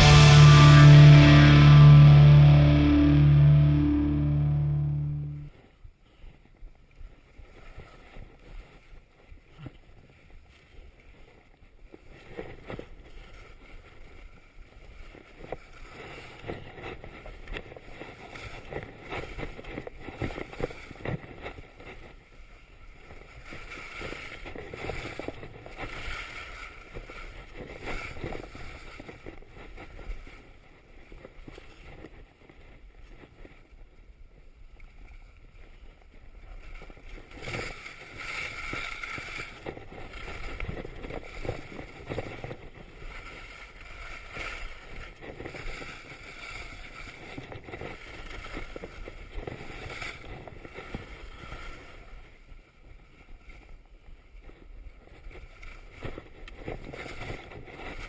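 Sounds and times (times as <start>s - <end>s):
skis scraping over snow: 7.2s - 58.0s.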